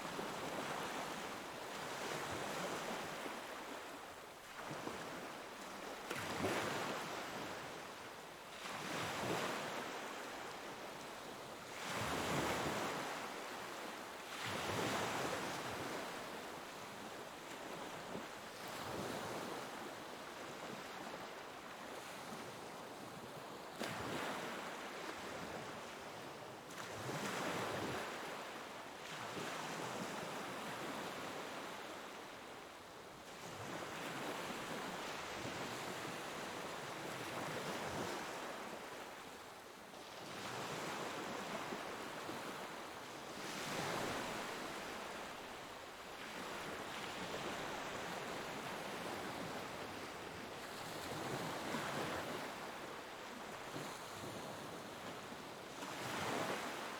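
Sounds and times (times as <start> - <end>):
wind: 0.0 - 56.9.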